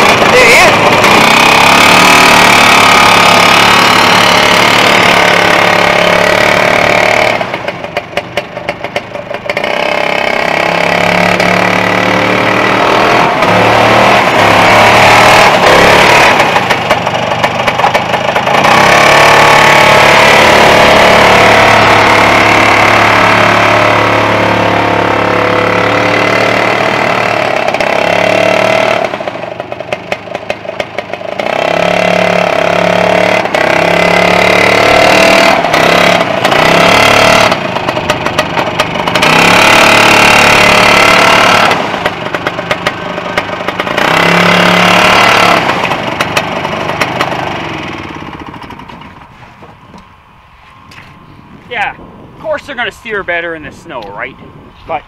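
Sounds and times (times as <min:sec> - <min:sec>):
snowmobile engine revving: 0:00.0 - 0:29.7, 0:30.8 - 0:48.5.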